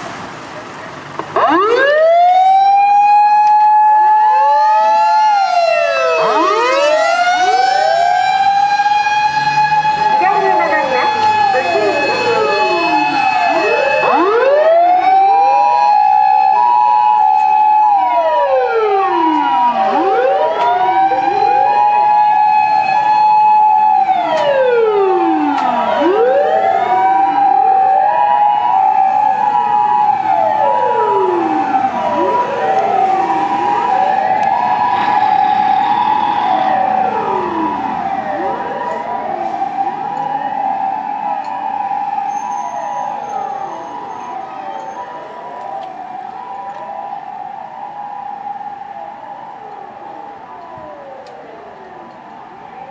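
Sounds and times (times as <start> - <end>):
fire truck motor siren wailing: 0.9 - 52.9.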